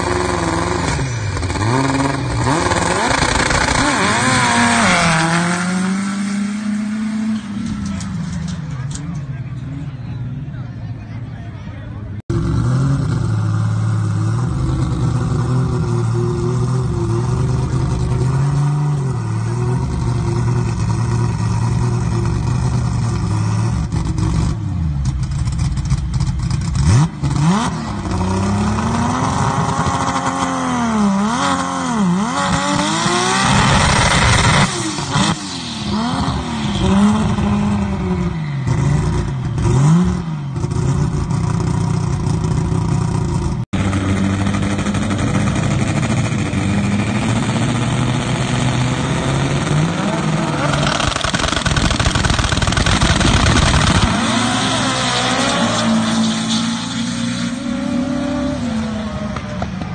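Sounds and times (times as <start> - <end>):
drag car engine revving: 0.0 - 10.0, 12.2 - 59.9.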